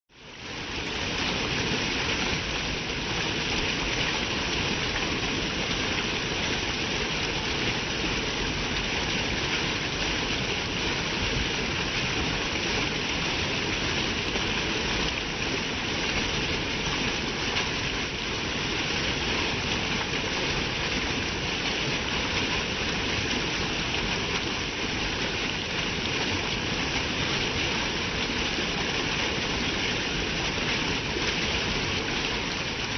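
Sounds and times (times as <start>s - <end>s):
running water rushing: 0.2s - 32.9s.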